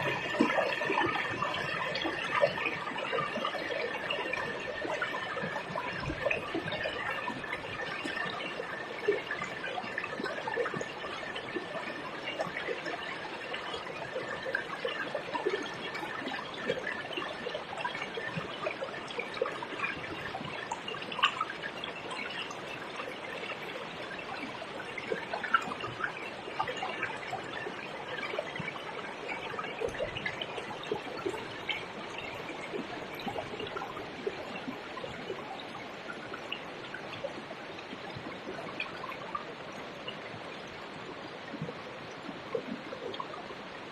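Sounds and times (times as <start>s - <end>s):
river water trickling: 0.0s - 43.9s
small splashes and drips: 0.0s - 43.9s.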